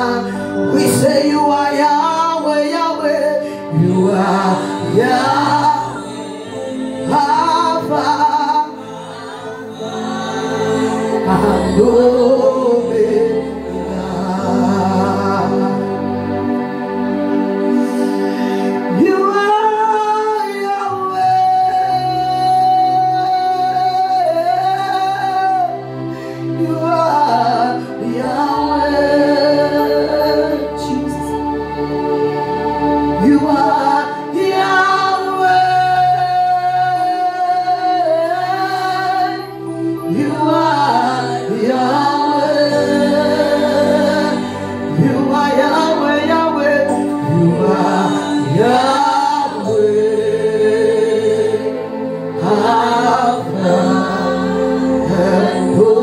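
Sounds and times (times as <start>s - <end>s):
person singing: 0.0s - 32.2s, 33.1s - 56.0s.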